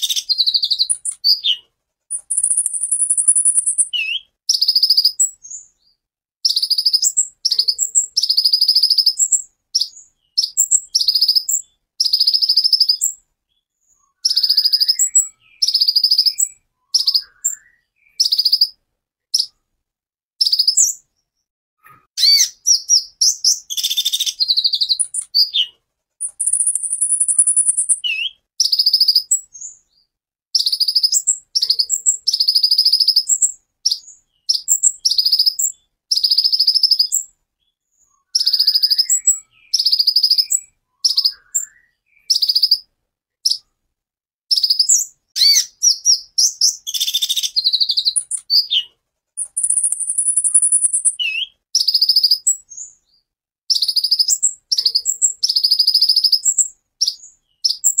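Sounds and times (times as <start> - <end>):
bird chirping song: 0.0 - 19.8, 20.4 - 43.8, 44.5 - 58.0.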